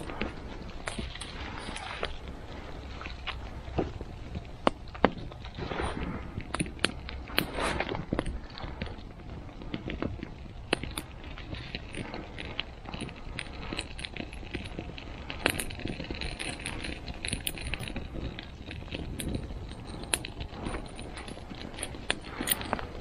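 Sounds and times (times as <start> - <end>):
campfire crackling: 0.0 - 23.0
low hiss of damp kindling: 0.0 - 23.0.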